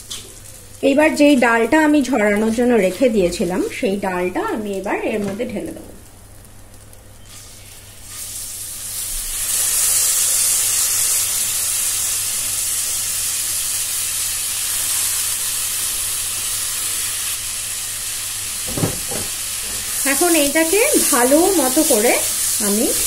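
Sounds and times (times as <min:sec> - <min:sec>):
lentils sizzling in hot oil: 0:00.0 - 0:23.0.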